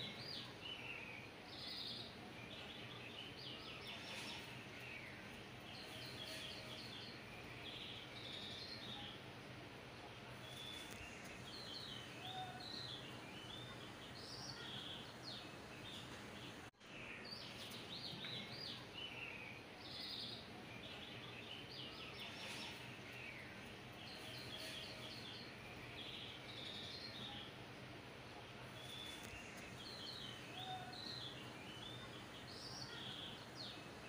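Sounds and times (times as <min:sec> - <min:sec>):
background hiss: 0:00.0 - 0:34.0
birds chirping: 0:00.0 - 0:34.0.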